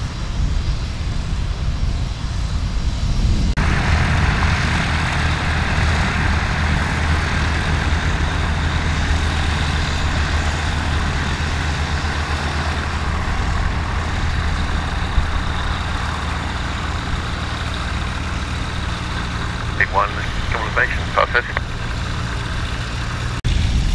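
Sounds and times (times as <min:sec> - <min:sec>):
heavy engine running: 0:00.0 - 0:23.9.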